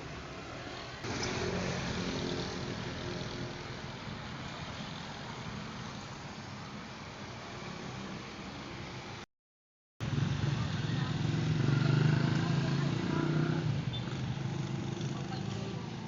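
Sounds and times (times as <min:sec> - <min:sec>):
road noise: 0:00.0 - 0:09.3, 0:10.0 - 0:16.0.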